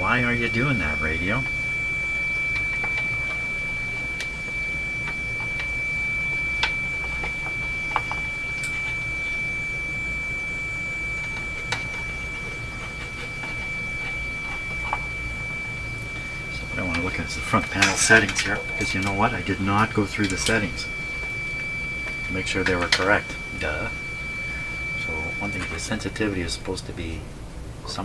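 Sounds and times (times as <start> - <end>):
high-pitched radio whistle: 0.0 - 27.1.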